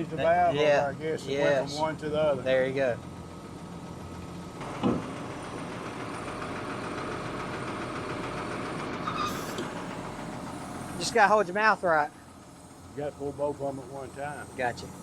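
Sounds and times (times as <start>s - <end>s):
truck engine running: 0.8s - 15.0s.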